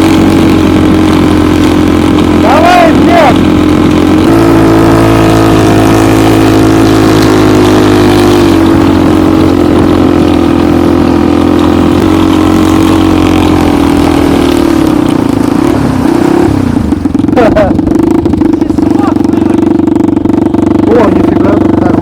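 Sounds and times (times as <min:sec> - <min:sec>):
snowmobile engine running under load: 0:00.0 - 0:22.0.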